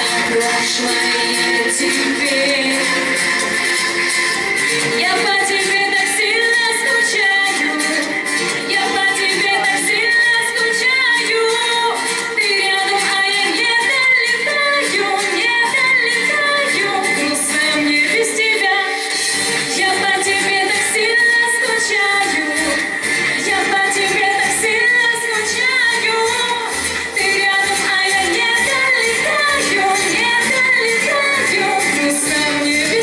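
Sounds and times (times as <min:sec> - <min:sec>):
backing music with steady beat: 0:00.0 - 0:33.0
woman singing pop song: 0:00.0 - 0:33.0.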